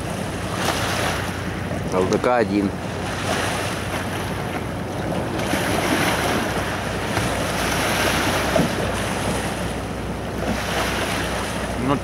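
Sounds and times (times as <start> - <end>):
boat motor hum: 0.0 - 12.0
water splashing against hull: 0.0 - 12.0.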